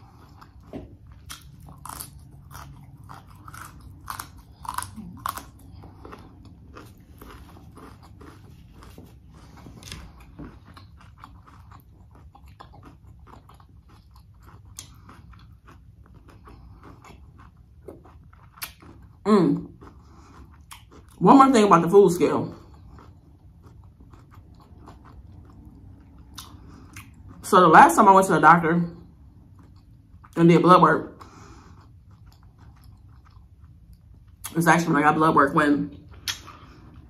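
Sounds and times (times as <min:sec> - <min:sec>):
crunchy chewing: 0:00.0 - 0:21.2, 0:22.4 - 0:27.5, 0:29.2 - 0:30.4, 0:31.2 - 0:34.5.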